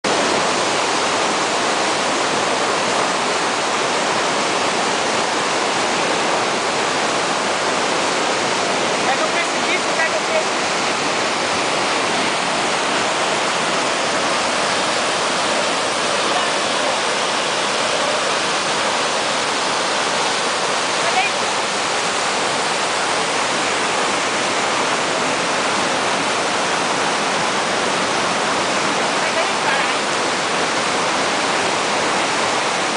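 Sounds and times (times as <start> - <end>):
rapids rushing over boulders: 0.0 - 32.9
waterfall plunging onto rocks: 0.0 - 32.9.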